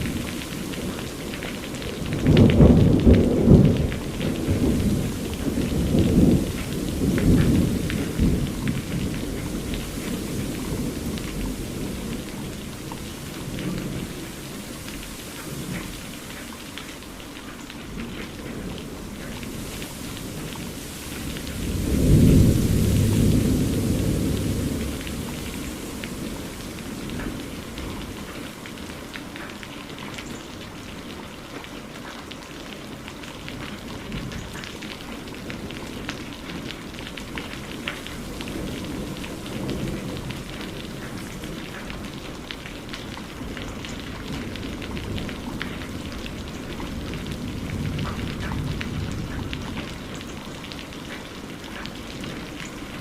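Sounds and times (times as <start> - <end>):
thunder rumbling: 0.0 - 17.2, 17.8 - 29.1, 33.5 - 53.0
rain pattering on a surface: 0.0 - 53.0.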